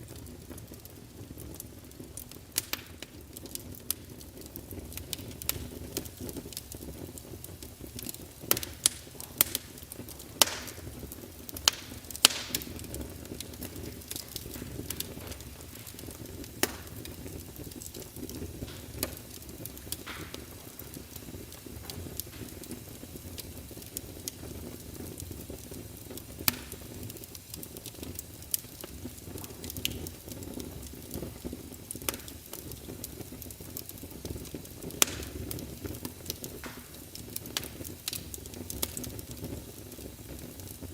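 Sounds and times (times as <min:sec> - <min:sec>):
fire pops and snaps: 0:00.0 - 0:40.9
wood fire crackling: 0:00.0 - 0:40.9.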